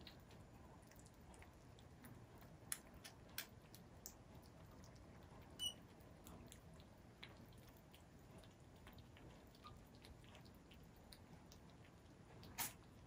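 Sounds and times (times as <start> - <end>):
kittens chewing and lapping: 0.0 - 13.0.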